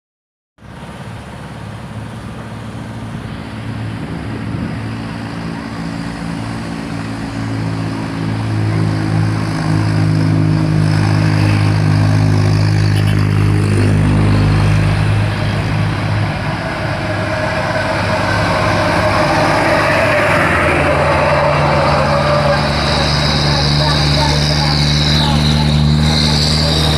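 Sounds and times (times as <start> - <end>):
heavy truck engine droning: 0.6 - 26.9.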